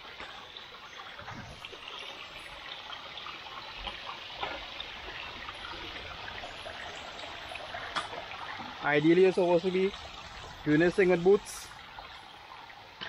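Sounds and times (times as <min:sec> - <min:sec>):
stream trickling: 0:00.0 - 0:13.0.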